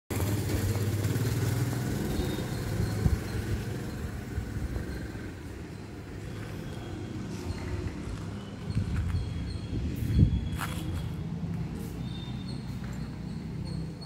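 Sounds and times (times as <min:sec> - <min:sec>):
vehicle engine running: 0:00.1 - 0:14.0.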